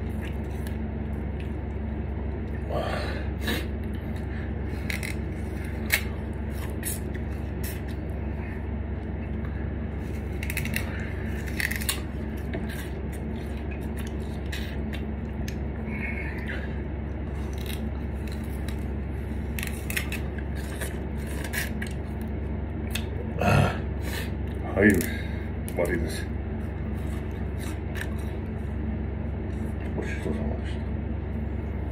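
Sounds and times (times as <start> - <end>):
chewing sugarcane crunching: 0.0 - 2.7, 3.4 - 23.4, 26.6 - 30.1
low hum: 0.0 - 31.9.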